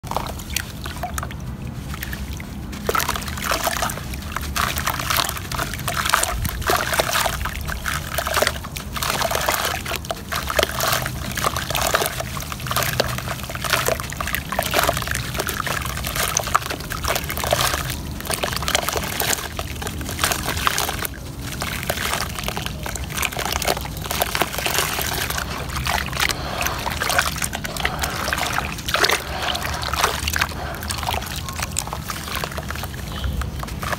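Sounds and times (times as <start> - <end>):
hands swishing through muddy water: 0.0 - 33.9
water sloshing and trickling: 0.0 - 33.9
wet mud crumbling gritty crackling: 0.0 - 33.9.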